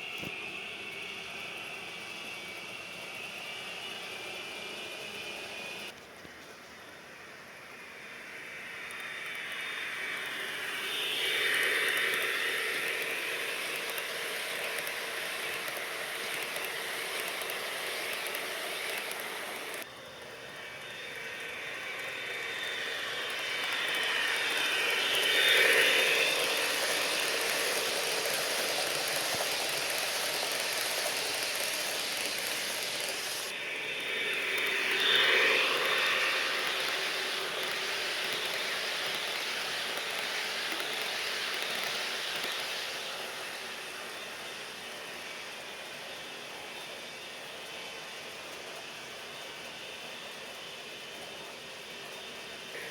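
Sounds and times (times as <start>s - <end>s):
model train wheels clicking on rails: 0.0s - 52.9s.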